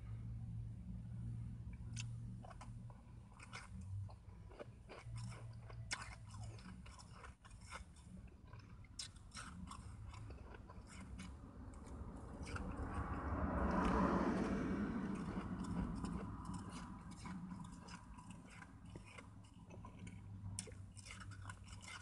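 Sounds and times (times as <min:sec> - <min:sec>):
person chewing crunchy ice: 0:01.8 - 0:22.0.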